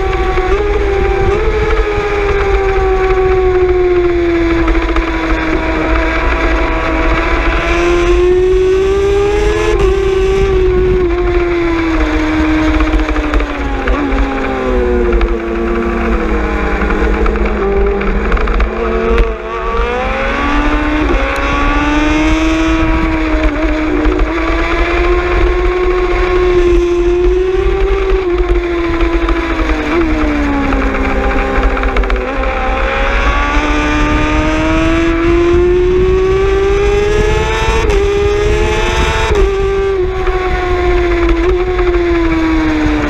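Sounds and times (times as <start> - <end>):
motorcycle engine accelerating: 0.0 - 43.0
wind rush on microphone: 0.0 - 43.0.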